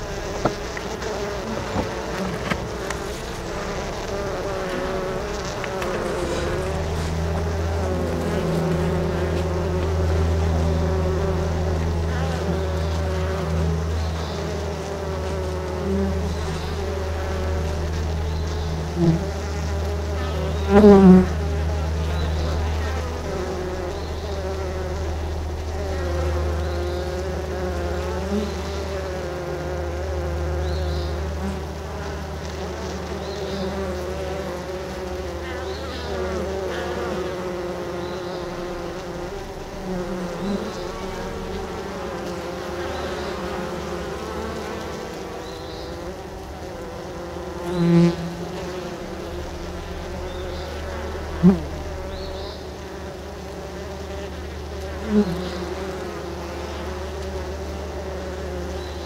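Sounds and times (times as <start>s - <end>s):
honey bees buzzing: 0.0s - 59.0s
single bee flying past: 0.0s - 59.0s.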